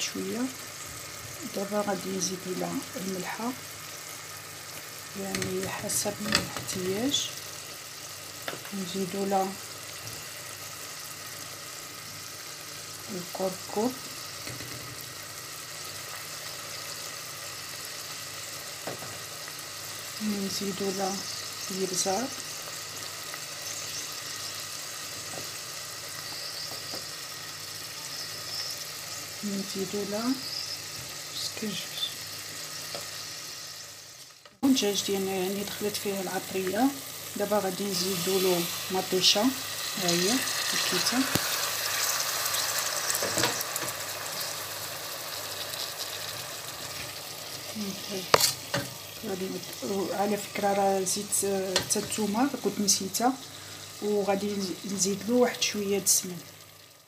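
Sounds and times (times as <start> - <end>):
food sizzling in a pot: 0.0 - 57.0.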